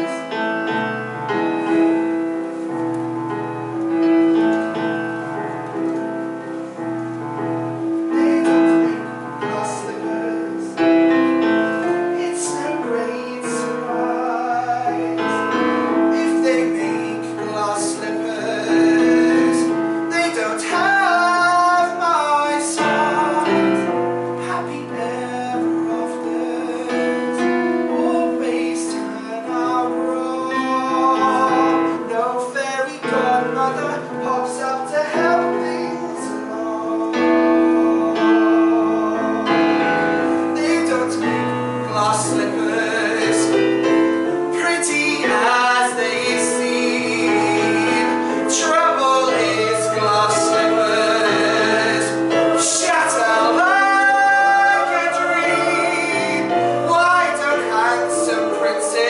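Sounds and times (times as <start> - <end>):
keyboard playing piano: 0.0 - 59.0
voices singing: 7.8 - 59.0.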